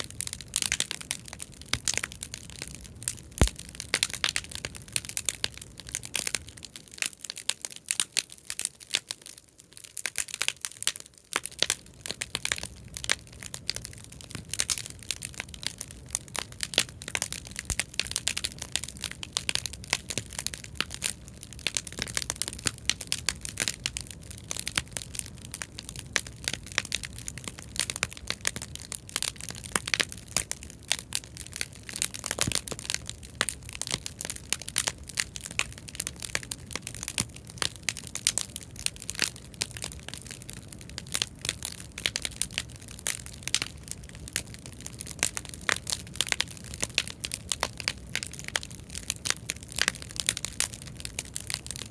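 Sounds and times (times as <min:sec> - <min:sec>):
low rumble of flames: 0:00.0 - 0:07.4, 0:10.9 - 0:51.9
bonfire crackling and popping: 0:00.0 - 0:51.9.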